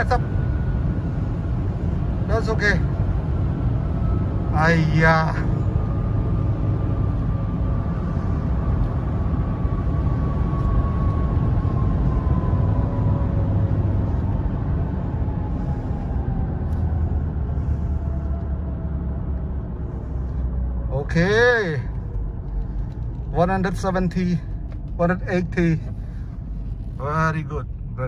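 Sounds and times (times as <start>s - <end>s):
road and wind noise in a car: 0.0s - 28.0s.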